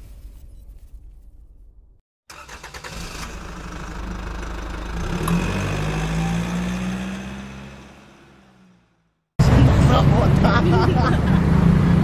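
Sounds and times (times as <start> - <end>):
engine revving up: 2.3 - 12.0.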